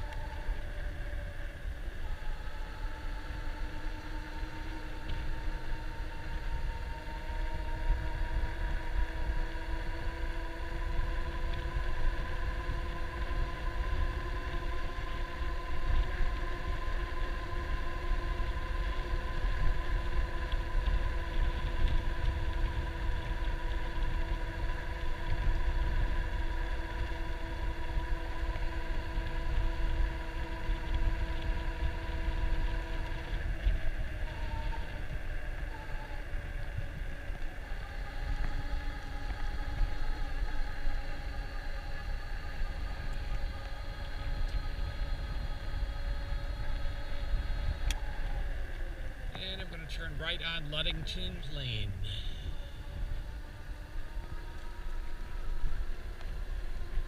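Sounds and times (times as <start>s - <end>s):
electric bike motor whine: 0.0s - 57.0s
wind buffeting microphone: 0.0s - 57.0s.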